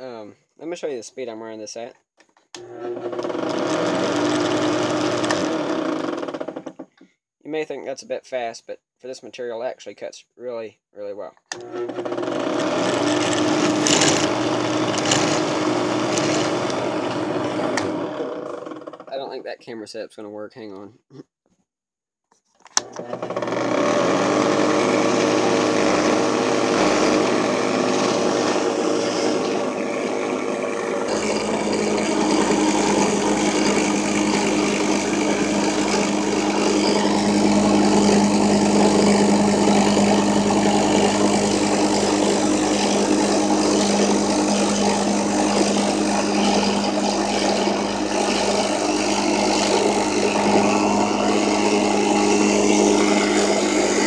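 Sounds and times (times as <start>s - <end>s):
drill press cutting plastic: 2.5s - 7.0s, 11.5s - 19.1s, 22.7s - 54.0s.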